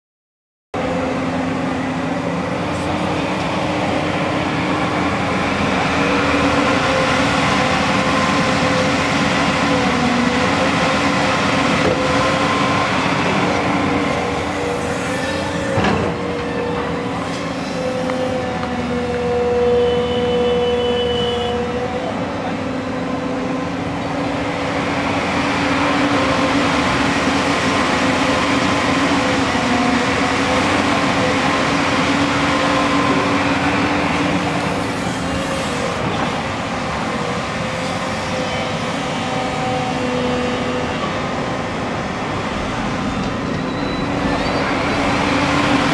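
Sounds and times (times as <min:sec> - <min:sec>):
excavator diesel engine running: 0:00.8 - 0:45.9.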